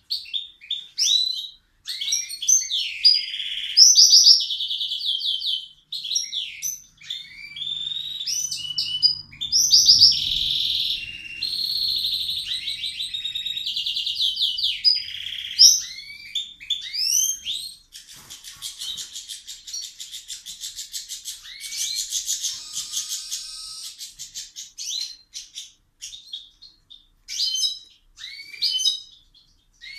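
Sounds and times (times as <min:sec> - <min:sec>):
songbird chirping and trilling: 0:00.0 - 0:29.9.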